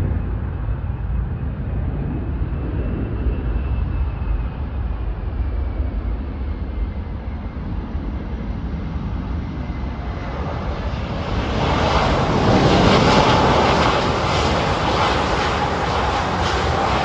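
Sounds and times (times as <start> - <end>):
distant jet engines rumbling: 0.0 - 17.0.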